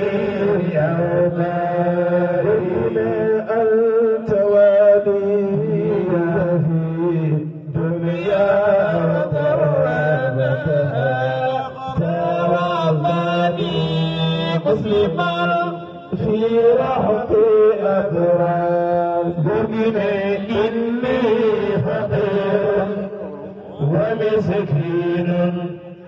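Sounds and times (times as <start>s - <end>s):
men chanting into microphones: 0.0s - 26.0s.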